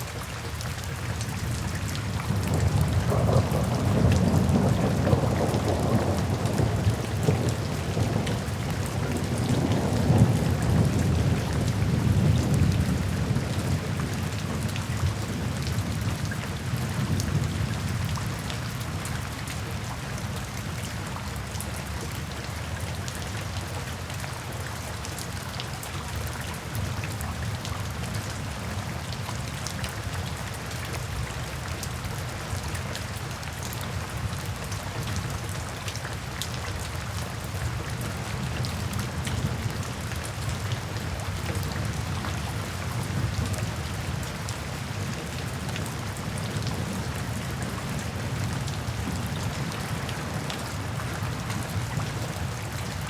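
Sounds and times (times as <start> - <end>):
raindrops pattering: 0.0 - 53.0.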